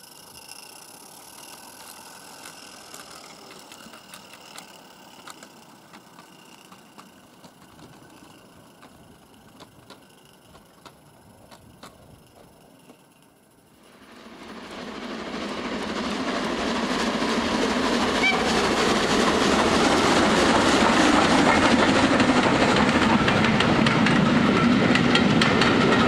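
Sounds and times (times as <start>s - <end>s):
wheels clicking on rail joints: 0.0s - 14.0s, 17.8s - 26.0s.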